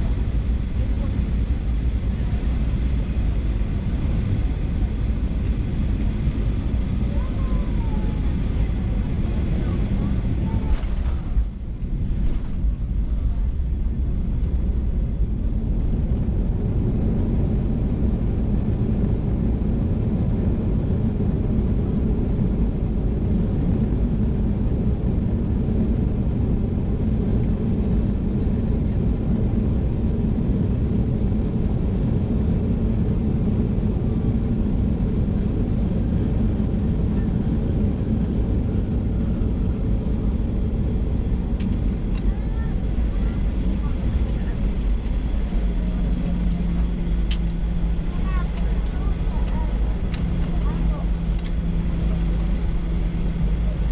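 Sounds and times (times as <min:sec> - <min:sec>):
airliner cabin engine rumble: 0:00.0 - 0:53.9.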